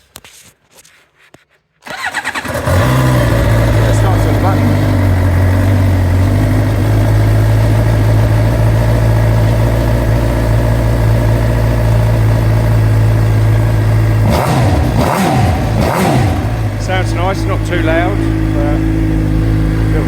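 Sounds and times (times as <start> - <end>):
engine throttle blips: 1.9 - 20.0
motorcycle engine idling: 1.9 - 20.0.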